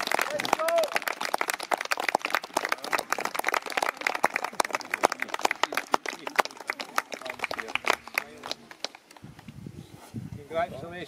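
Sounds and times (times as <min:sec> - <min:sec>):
people applauding: 0:00.0 - 0:09.3.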